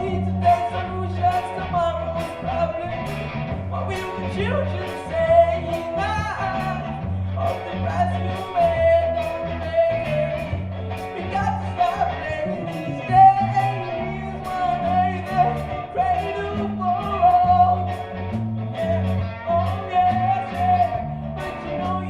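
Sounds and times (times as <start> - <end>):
live band playing reggae: 0.0 - 22.0.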